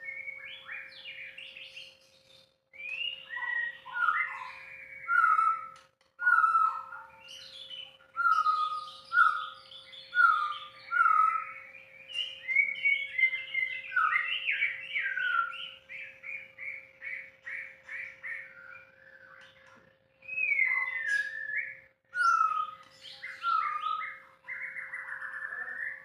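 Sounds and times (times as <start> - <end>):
bird singing whistled phrases: 0.0 - 26.0.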